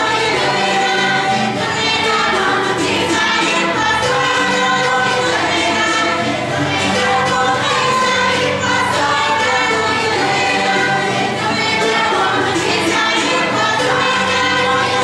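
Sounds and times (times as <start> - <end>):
group singing in chorus: 0.0 - 15.0.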